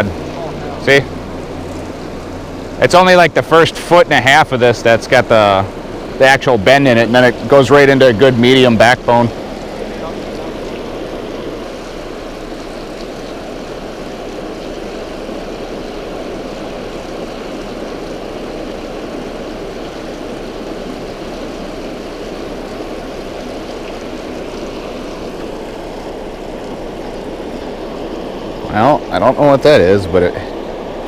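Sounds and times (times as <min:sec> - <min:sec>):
water rushing over a spillway: 0:00.0 - 0:31.0.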